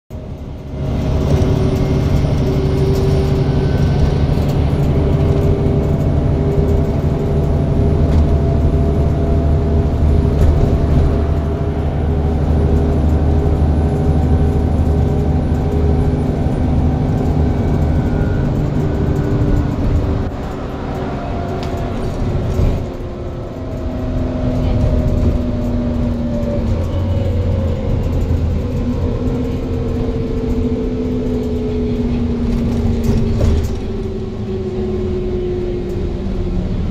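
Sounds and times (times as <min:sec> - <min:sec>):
bus engine drone: 0:00.1 - 0:36.9
drivetrain whine: 0:00.1 - 0:36.9.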